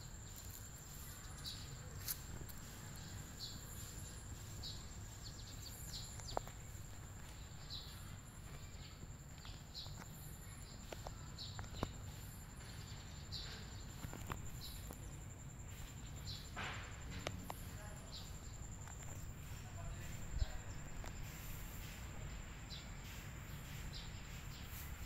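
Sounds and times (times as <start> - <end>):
short insect chirps: 0.0 - 25.0.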